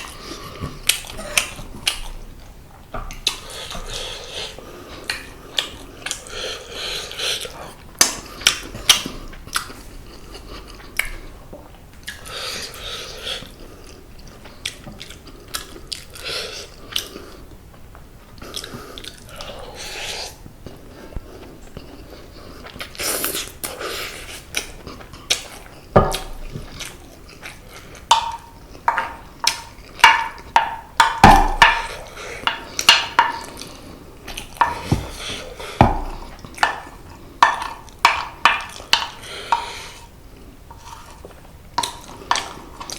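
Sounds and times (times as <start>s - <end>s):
chewing with wet mouth sounds: 3.1s - 42.9s.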